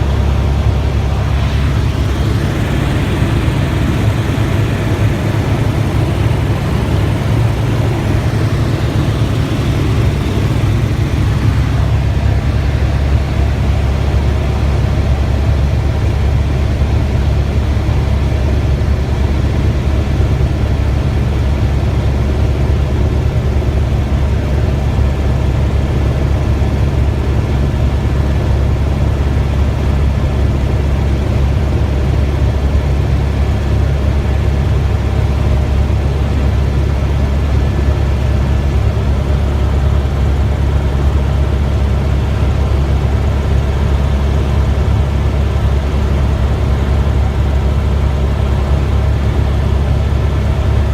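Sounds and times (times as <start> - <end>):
helicopter rotor and engine drone: 0.0 - 50.9.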